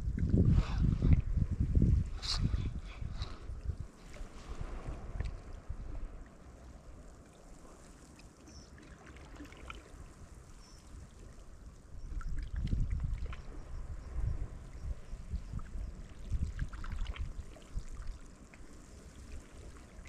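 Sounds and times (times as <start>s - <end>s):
wind rumbling on microphone: 0.0s - 20.0s
sea water sloshing among rocks: 3.6s - 20.0s.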